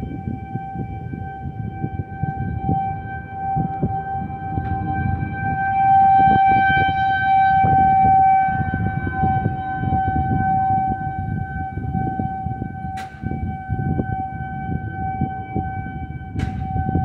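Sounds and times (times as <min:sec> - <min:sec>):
low rumbling noise: 0:00.0 - 0:17.0
warning siren steady tone: 0:00.0 - 0:17.0.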